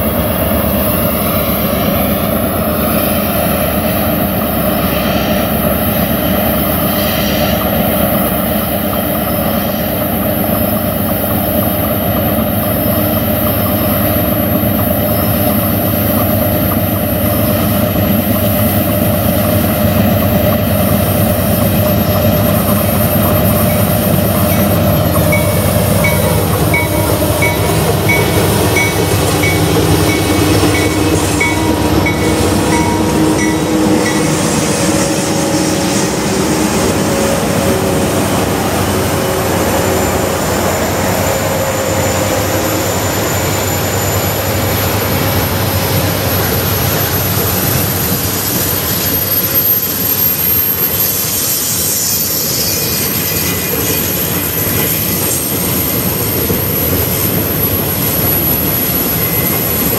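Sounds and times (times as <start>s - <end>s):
locomotive engines droning: 0.0s - 59.9s.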